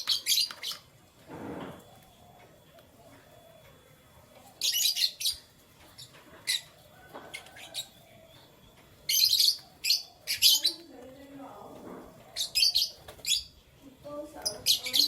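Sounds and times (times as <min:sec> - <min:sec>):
canaries chirping: 0:00.0 - 0:15.0.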